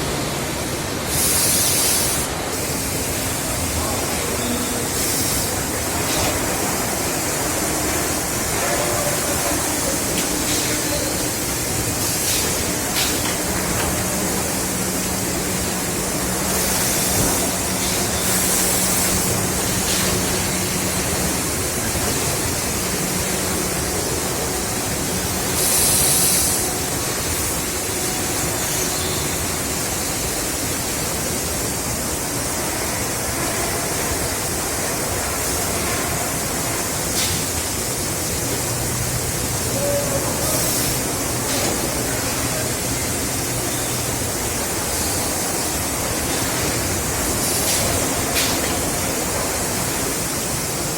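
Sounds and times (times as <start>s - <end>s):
factory machinery noise: 0.0s - 50.9s
high hiss bursts: 0.5s - 50.9s.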